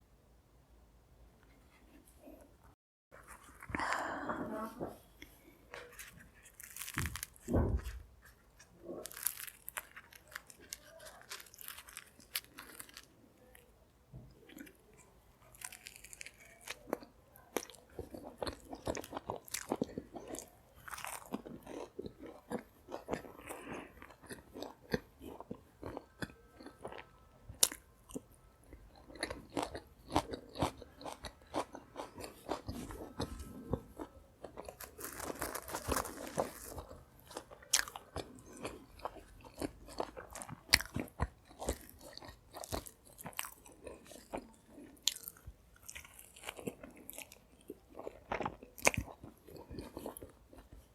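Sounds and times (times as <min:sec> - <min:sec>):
person chewing crunchy food: 0:03.2 - 0:13.7, 0:14.3 - 0:50.9.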